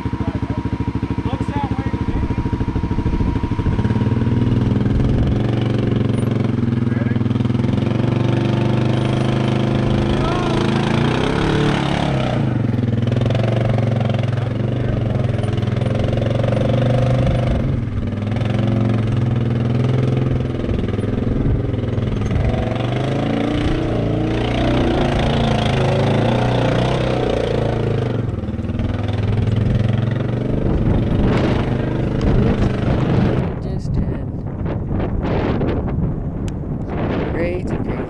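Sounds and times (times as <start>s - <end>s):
utility vehicle engine running: 0.0s - 38.0s.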